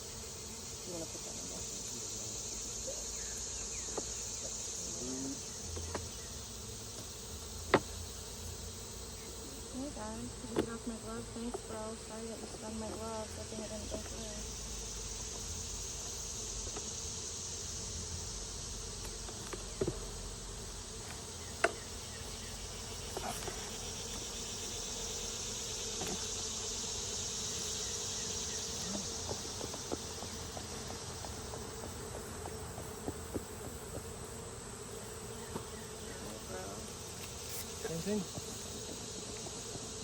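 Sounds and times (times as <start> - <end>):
honeybees buzzing: 0.0 - 40.0.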